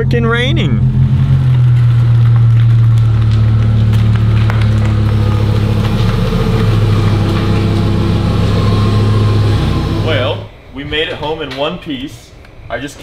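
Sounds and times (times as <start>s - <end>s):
car engine running at low revs: 0.0s - 10.5s.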